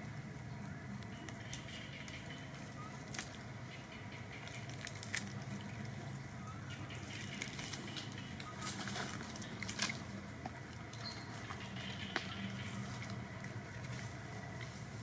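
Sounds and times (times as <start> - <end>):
low steady hum: 0.0 - 15.0
dry leaves crackling: 0.2 - 15.0.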